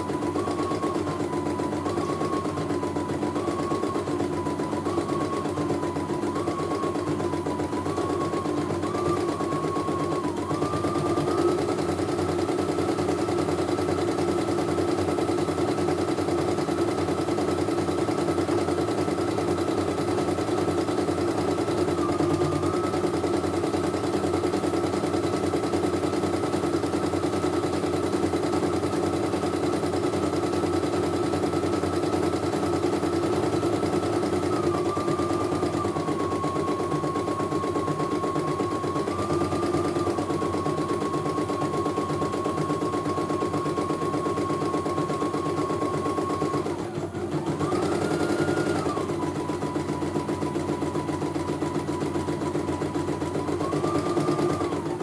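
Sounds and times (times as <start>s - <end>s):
embroidery machine stitching: 0.0s - 55.0s
machine whining tone: 0.0s - 55.0s.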